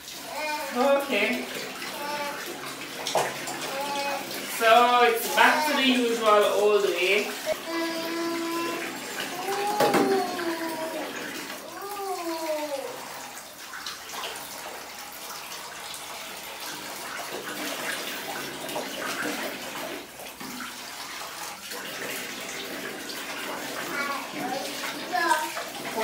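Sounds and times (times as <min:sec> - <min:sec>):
tap running into basin: 0:00.0 - 0:26.0
water splashing and pouring: 0:00.0 - 0:26.0.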